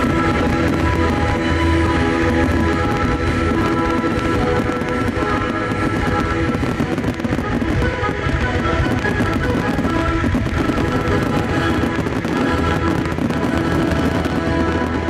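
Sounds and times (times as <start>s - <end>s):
fireworks crackling and popping: 0.0s - 15.0s
loud music with held notes: 0.0s - 15.0s.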